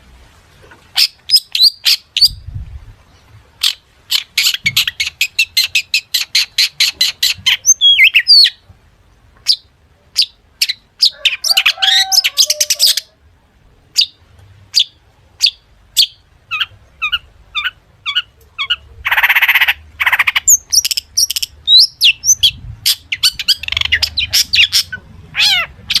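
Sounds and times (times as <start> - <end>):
harsh rasping bird calls: 0.9 - 2.4, 3.6 - 8.7, 9.4 - 13.2, 13.9 - 26.0
shrike singing varied song: 1.0 - 2.6, 3.6 - 8.6, 9.4 - 13.2, 13.9 - 26.0.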